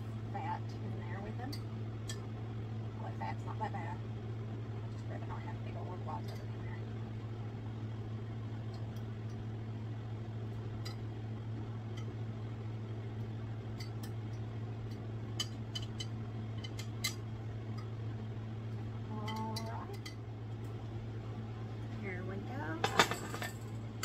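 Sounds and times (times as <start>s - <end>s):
kitchen appliance hum: 0.0s - 24.0s.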